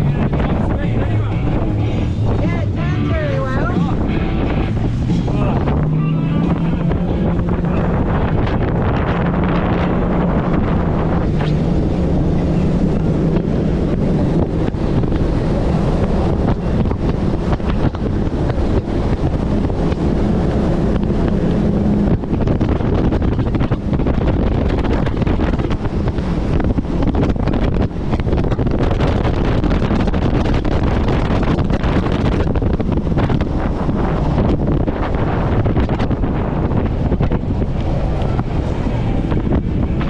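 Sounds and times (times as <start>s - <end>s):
outboard motor running: 0.0s - 40.0s
wind buffeting microphone: 0.0s - 40.0s.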